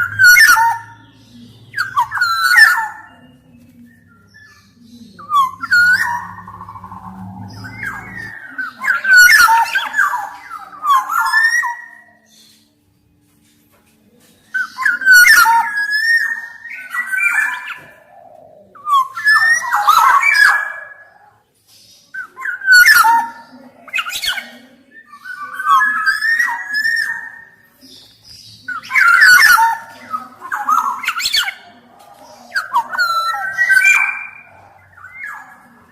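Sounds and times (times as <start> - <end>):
oriole singing whistled phrases: 0.0 - 12.6, 14.4 - 35.9.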